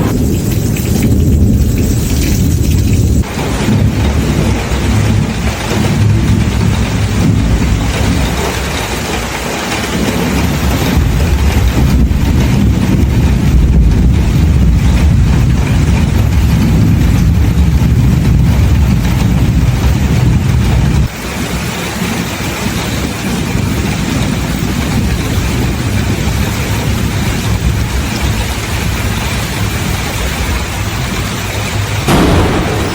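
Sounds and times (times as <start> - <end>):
low rumble of thunder: 0.0 - 21.1, 23.3 - 32.9
rain: 0.0 - 32.9.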